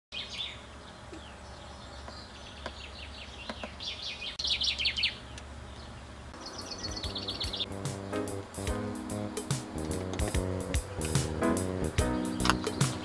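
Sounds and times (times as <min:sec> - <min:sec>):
songbird singing: 0:00.1 - 0:13.0.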